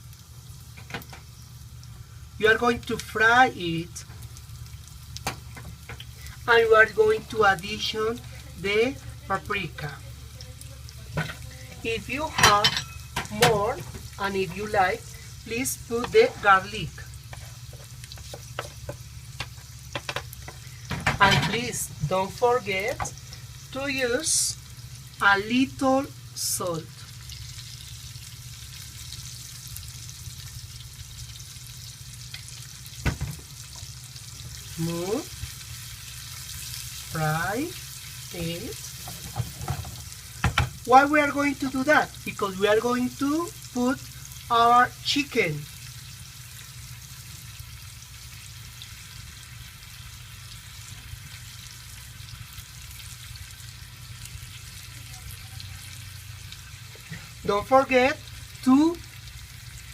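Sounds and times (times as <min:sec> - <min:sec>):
food frying in oil: 0:00.0 - 0:59.9
steady low hum: 0:00.0 - 0:59.9.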